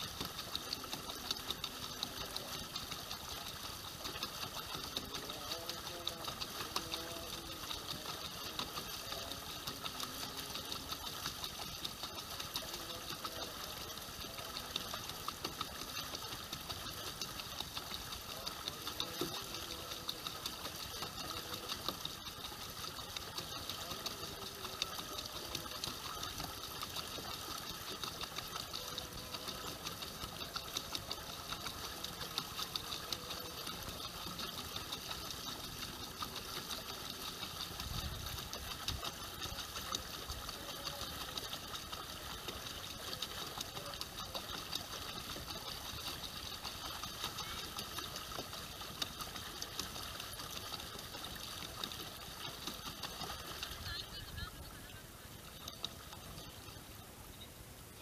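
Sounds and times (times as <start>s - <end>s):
faint voices: 0.0s - 58.0s
small boat motor running: 0.0s - 58.0s.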